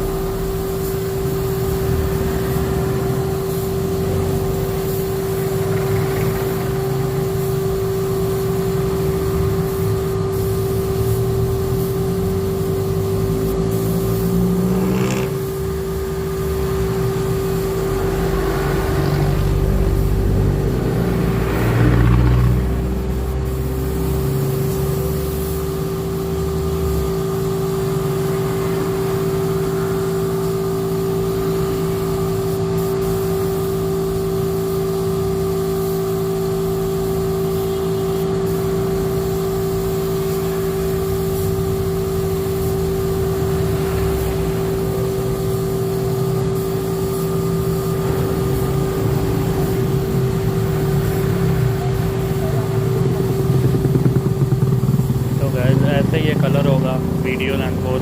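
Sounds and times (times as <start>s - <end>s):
machine humming: 0.0s - 29.1s, 36.8s - 58.0s.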